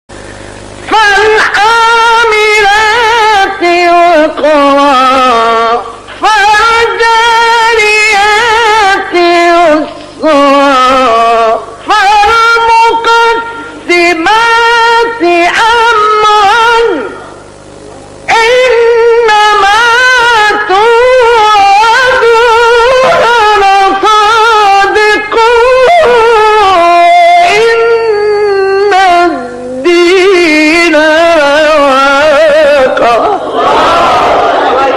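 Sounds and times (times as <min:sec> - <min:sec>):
man reciting melodically: 0:00.8 - 0:17.2, 0:18.3 - 0:33.4.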